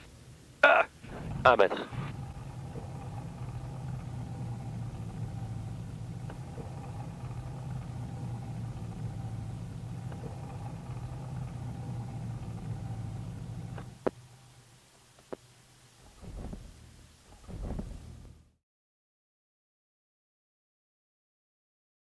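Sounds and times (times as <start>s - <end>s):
tyres rolling on asphalt: 0.0s - 18.6s.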